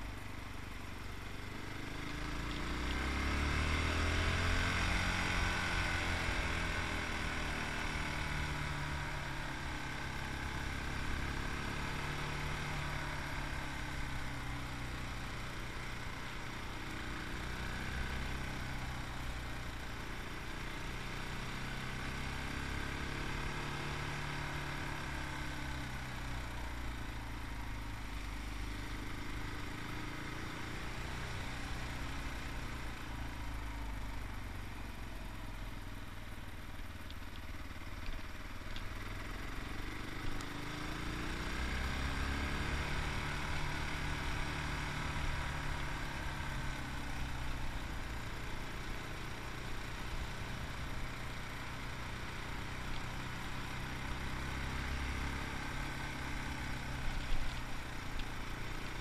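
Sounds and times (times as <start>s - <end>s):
motorcycle engine revving: 1.0s - 36.4s, 37.3s - 59.0s.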